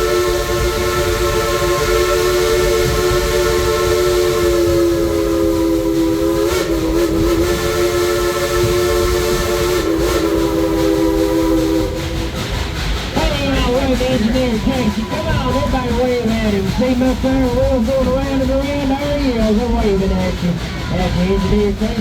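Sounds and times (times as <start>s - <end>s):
low rumble of moving train: 0.0s - 22.0s.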